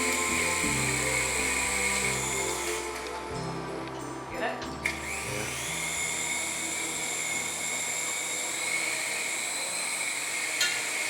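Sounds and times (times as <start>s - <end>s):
toy aircraft motors whining: 0.0s - 11.0s.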